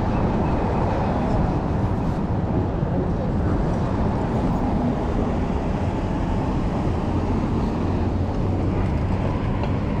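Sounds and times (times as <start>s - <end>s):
city street traffic rumble: 0.0s - 10.0s
wind noise: 0.0s - 10.0s.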